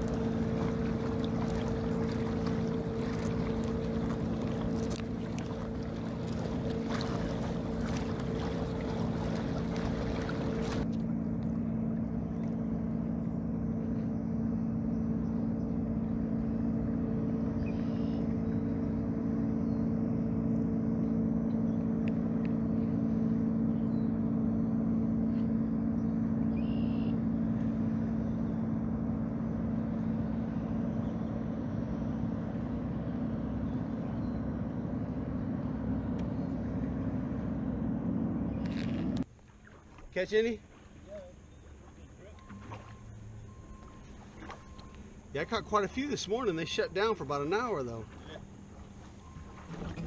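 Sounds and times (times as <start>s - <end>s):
boat engine humming: 0.0s - 50.0s.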